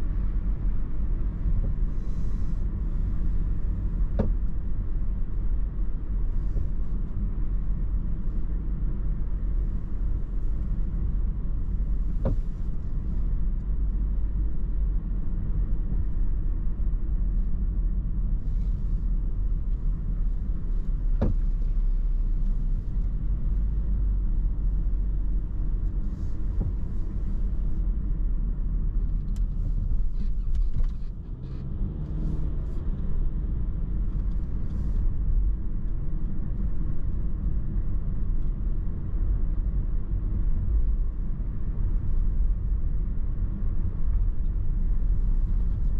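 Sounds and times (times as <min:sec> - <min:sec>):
car interior road rumble: 0:00.0 - 0:45.9.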